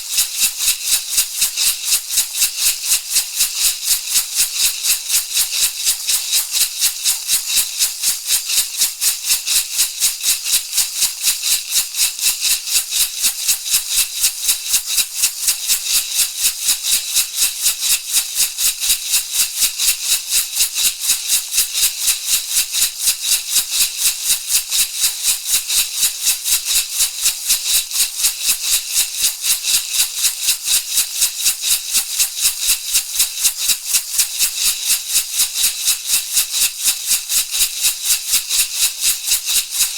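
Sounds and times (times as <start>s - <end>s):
rattle shaken rhythmically: 0.0s - 39.9s.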